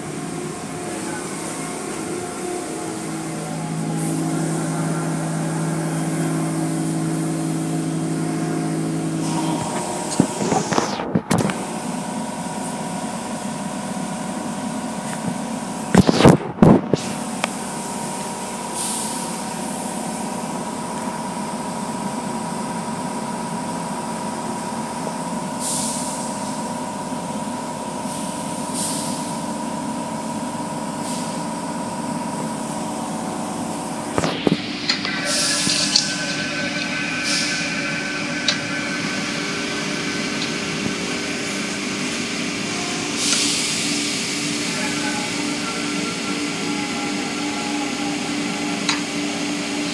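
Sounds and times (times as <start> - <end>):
car wash machinery hum: 0.0 - 49.9.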